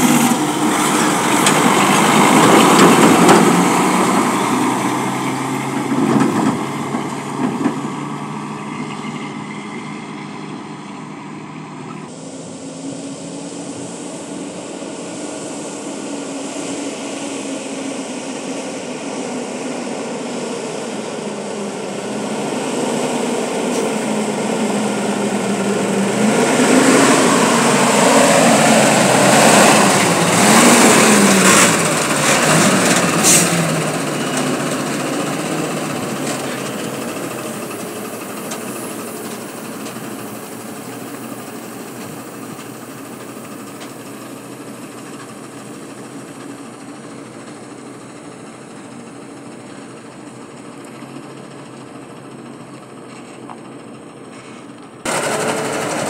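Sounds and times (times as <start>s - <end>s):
diesel truck driving past: 0.0s - 56.0s.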